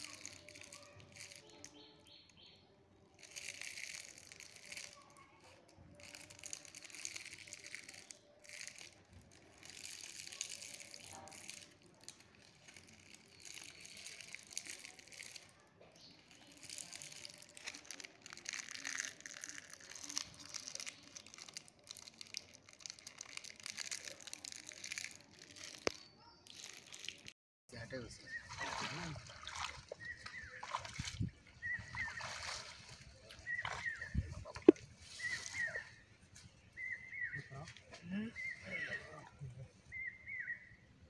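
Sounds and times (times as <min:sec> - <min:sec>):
wet plants rustling and crackling: 0:00.0 - 0:02.5, 0:03.1 - 0:27.4, 0:28.3 - 0:40.1
mesh net in water: 0:00.0 - 0:27.4, 0:28.3 - 0:36.0.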